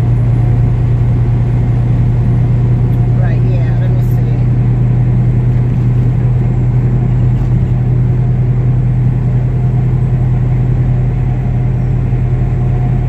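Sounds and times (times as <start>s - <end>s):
road and tyre noise: 0.0s - 13.0s
truck engine hum: 0.0s - 13.0s.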